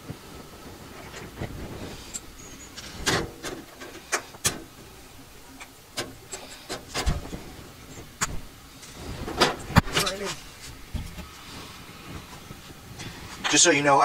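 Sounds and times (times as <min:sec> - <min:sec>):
light rubbing and handling: 0:00.0 - 0:13.9.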